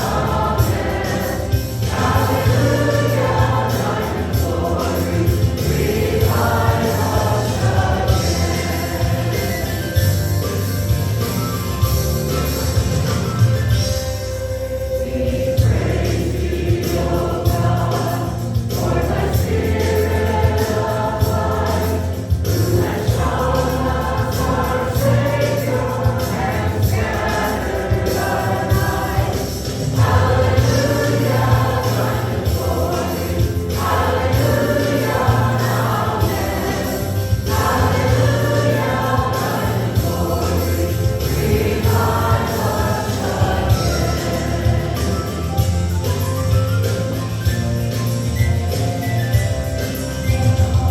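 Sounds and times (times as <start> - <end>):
group singing worship song: 0.0 - 11.3, 14.7 - 45.9
band with heavy bass: 0.0 - 50.9.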